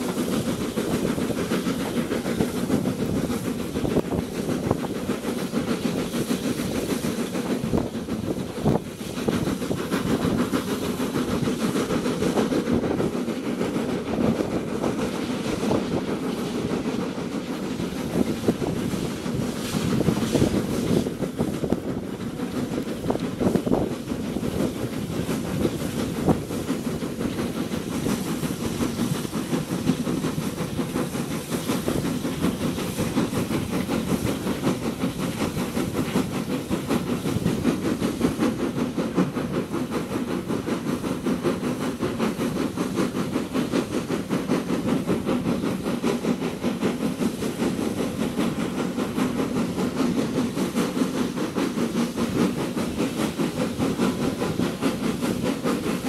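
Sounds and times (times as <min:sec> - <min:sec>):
steam hissing: 0:00.0 - 0:56.0
steam locomotive exhaust beating: 0:00.0 - 0:56.0.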